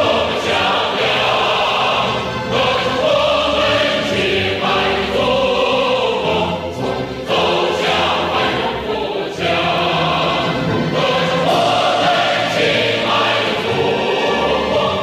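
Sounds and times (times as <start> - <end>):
choir singing held notes: 0.0 - 15.0
musical accompaniment: 0.0 - 15.0.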